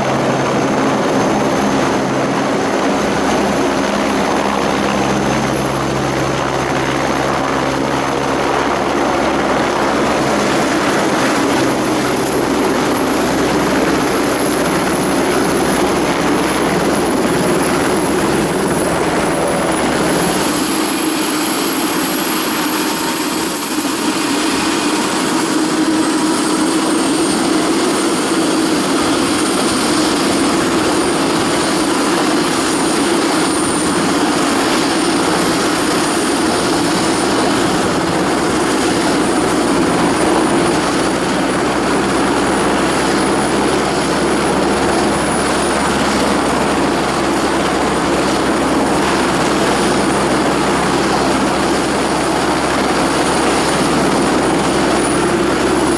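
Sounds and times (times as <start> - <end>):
aircraft propeller engine: 0.0 - 55.9.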